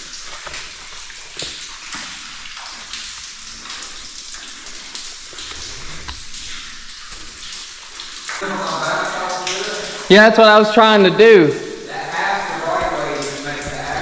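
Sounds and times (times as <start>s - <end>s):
waterfall splashing and trickling: 0.0s - 14.0s.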